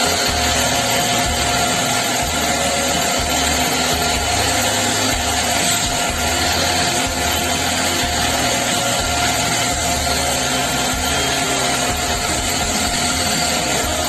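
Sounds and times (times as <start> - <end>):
power tool running: 0.0 - 14.0.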